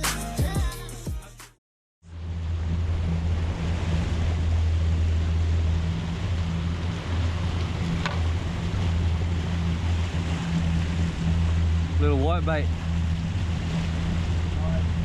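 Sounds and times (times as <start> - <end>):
outboard engine humming: 2.0 - 15.0
water noise: 2.0 - 15.0
wind: 2.0 - 15.0.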